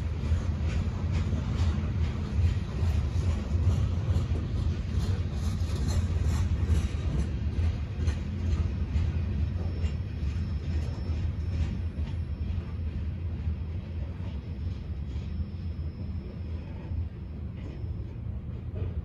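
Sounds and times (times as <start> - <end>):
freight train rumbling past: 0.0 - 19.0
train wheel clicks: 0.0 - 19.0.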